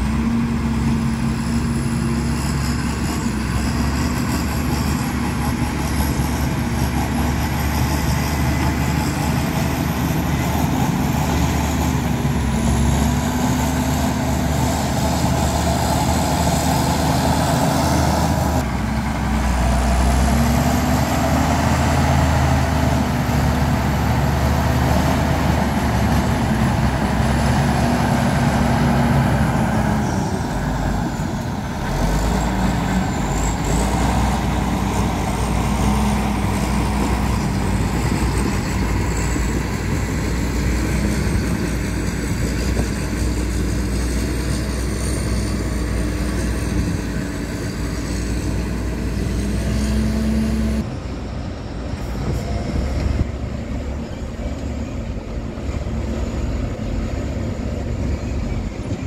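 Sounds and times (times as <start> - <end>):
heavy diesel engine working: 0.0 - 59.0.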